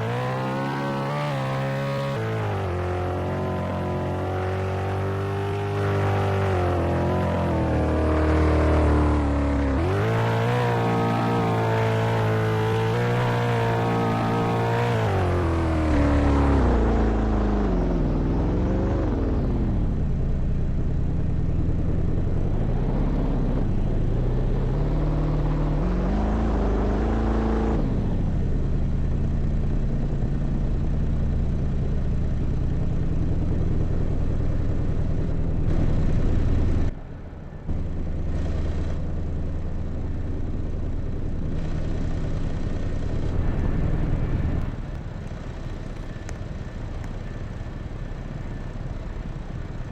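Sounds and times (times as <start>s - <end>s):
road rumble: 0.0s - 49.9s
vehicle engine: 0.0s - 49.9s.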